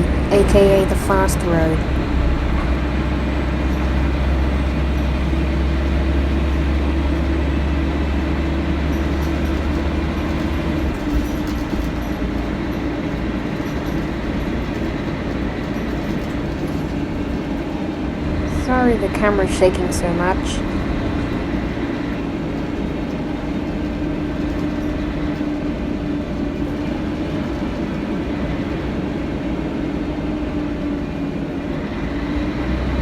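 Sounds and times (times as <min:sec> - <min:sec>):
bus diesel engine droning: 0:00.0 - 0:33.0.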